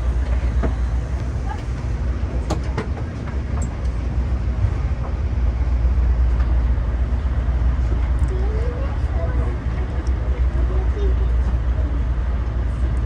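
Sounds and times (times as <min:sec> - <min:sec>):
low hum inside a people-mover car: 0:00.0 - 0:13.0.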